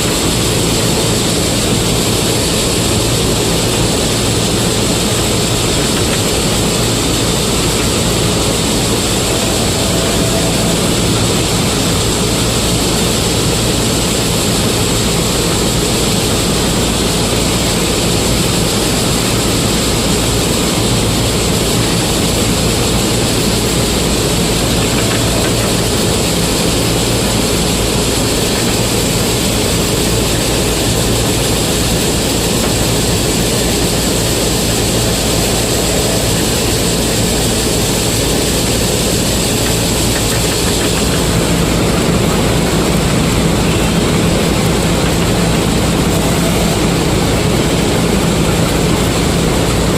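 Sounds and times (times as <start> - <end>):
combine harvester engine drone: 0.0 - 49.9.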